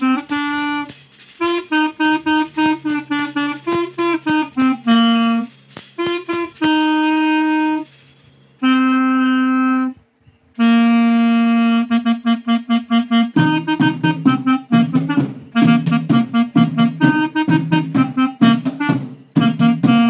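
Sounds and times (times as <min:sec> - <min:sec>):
clarinet melody: 0:00.0 - 0:10.0, 0:10.6 - 0:20.0.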